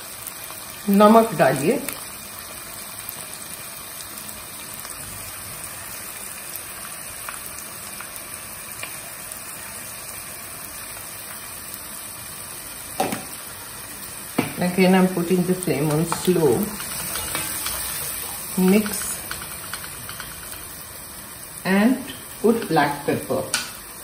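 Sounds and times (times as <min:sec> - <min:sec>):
vegetables sizzling in a pot: 0:00.0 - 0:24.0.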